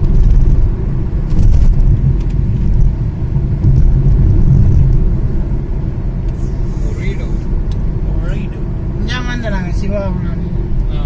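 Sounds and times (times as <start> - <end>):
car driving on road: 0.0 - 11.0.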